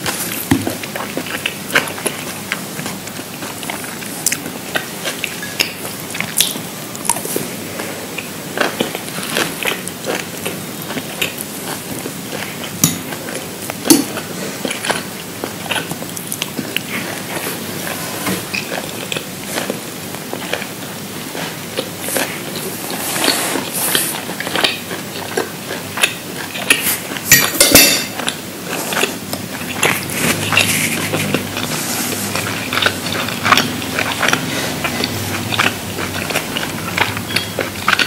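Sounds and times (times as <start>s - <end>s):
person chewing crunchy food: 0.0s - 38.0s.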